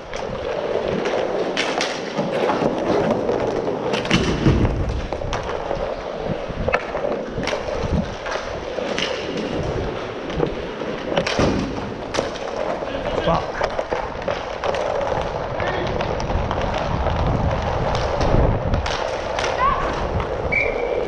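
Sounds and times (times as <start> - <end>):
hockey sticks and puck clacking: 0.0 - 21.0
skate wheels rolling on rink floor: 0.0 - 21.0.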